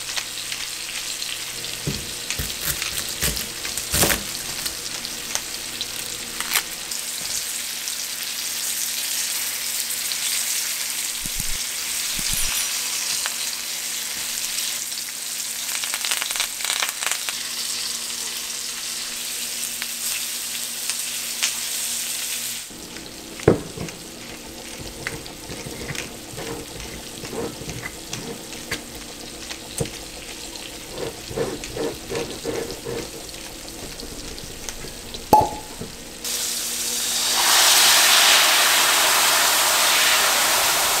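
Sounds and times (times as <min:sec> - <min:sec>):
meat sizzling in a pan: 0:00.0 - 0:41.0.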